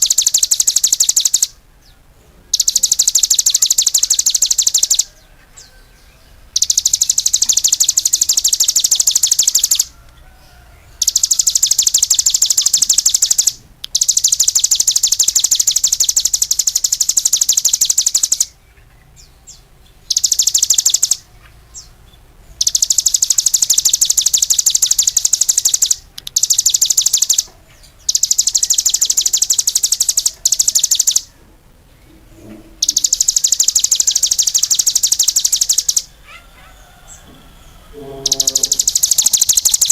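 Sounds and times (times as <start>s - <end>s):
songbird rapid high trills: 0.0s - 1.6s, 2.5s - 5.8s, 6.5s - 10.0s, 11.0s - 18.6s, 20.0s - 21.9s, 22.6s - 31.3s, 32.8s - 39.9s.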